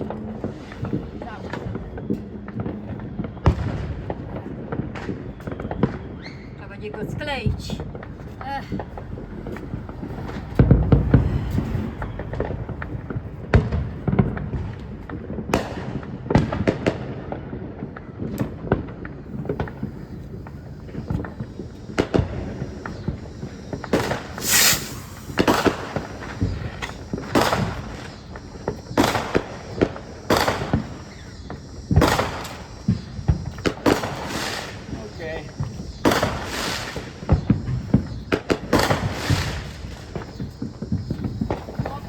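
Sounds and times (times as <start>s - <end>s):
fireworks bangs and cracks: 0.0s - 42.0s.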